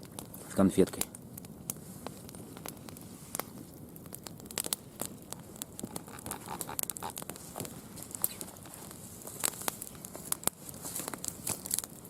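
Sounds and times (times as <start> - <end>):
campfire crackling and popping: 0.0 - 12.0
soft steady hiss: 0.0 - 12.0.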